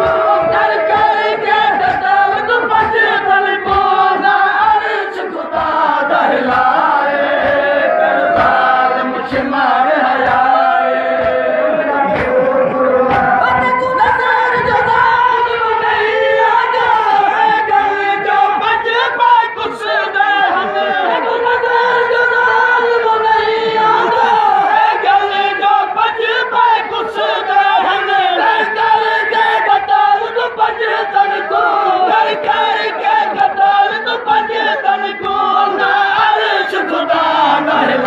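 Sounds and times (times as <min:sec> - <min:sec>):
crowd of men chanting: 0:00.0 - 0:38.0.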